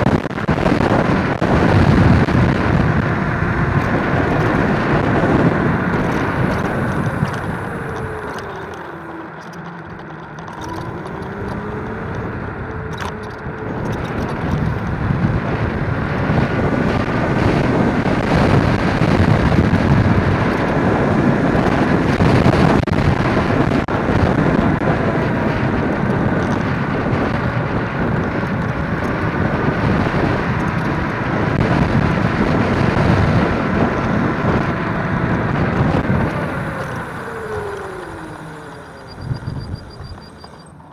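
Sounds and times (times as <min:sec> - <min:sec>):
electric motor whine: 0:00.0 - 0:40.9
wind rushing over microphone: 0:00.0 - 0:40.9.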